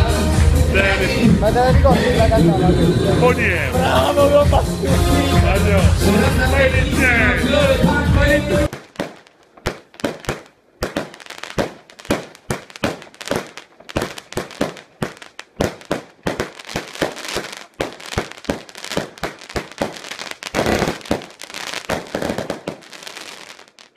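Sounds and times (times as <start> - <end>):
fireworks bangs and crackling: 0.0 - 2.6, 3.2 - 23.9.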